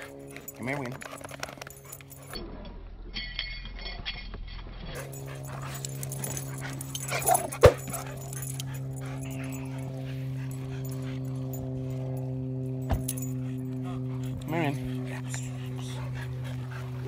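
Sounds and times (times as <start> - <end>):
dogs playing rough: 0.0 - 17.0
low mechanical hum: 0.0 - 17.0.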